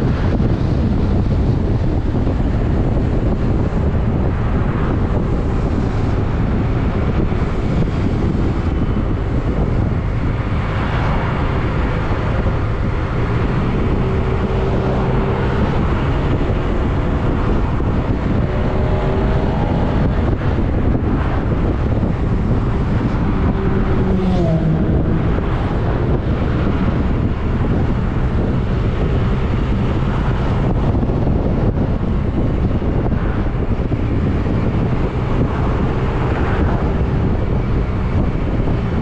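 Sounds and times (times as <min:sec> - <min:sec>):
wind over microphone: 0:00.0 - 0:39.0
motorcycle engine: 0:05.0 - 0:39.0.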